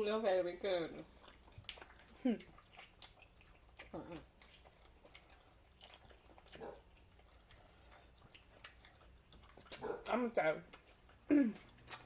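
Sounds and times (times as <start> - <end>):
chewing and mouth sounds: 0.8 - 12.0.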